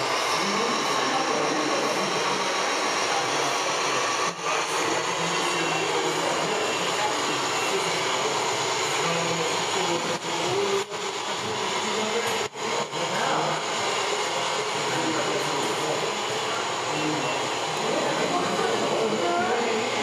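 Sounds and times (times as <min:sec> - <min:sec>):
murmur of voices: 0:00.0 - 0:20.0.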